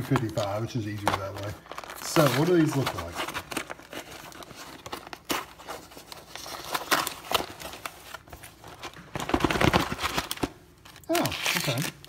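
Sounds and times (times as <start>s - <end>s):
cardboard carton rustling: 0.1s - 10.5s.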